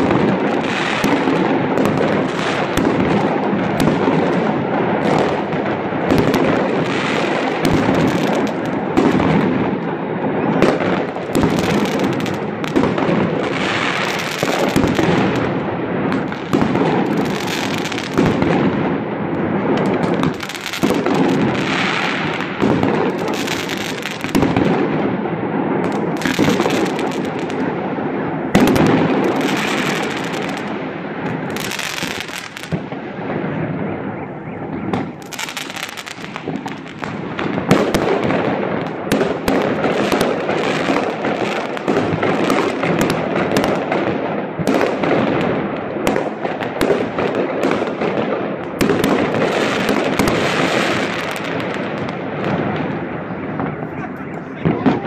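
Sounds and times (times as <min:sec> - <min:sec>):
fireworks bangs and crackling: 0:00.0 - 0:55.0
loud firework booms: 0:00.0 - 0:55.0.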